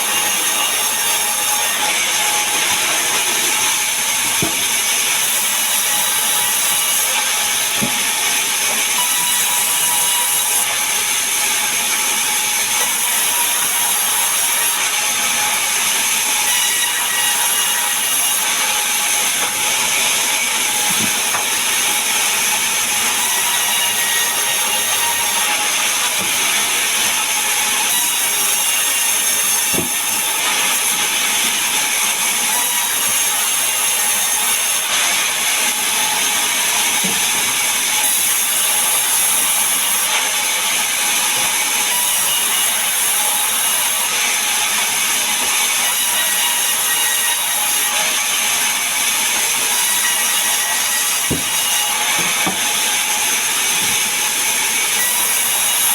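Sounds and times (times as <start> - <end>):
power saw cutting wood: 0.0 - 55.9.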